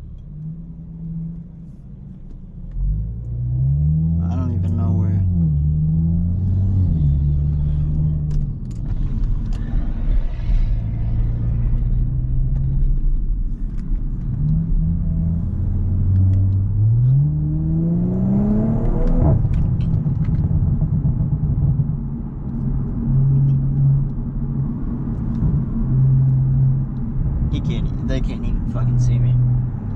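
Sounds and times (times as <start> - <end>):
car engine and exhaust: 0.0 - 29.9.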